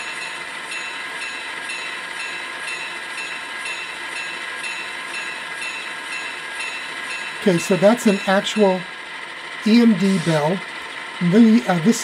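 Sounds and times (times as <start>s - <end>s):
locomotive bell ringing: 0.0s - 12.0s.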